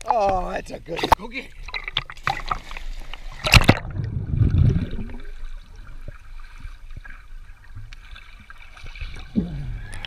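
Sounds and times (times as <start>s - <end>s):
underwater churning and bubbling: 0.0s - 10.0s.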